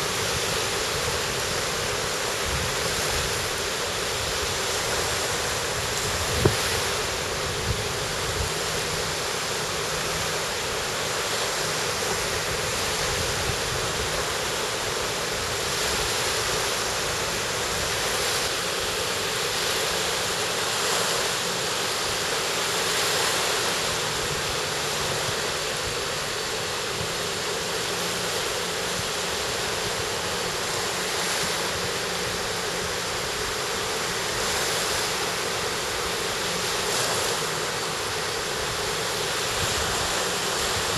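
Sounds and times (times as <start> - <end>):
sea surf washing onto beach: 0.0 - 40.9.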